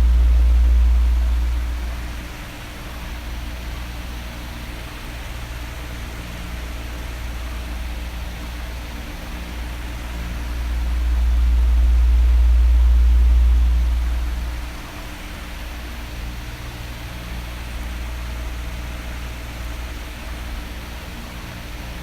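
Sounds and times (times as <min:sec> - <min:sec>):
electric fan running: 0:00.0 - 0:22.0.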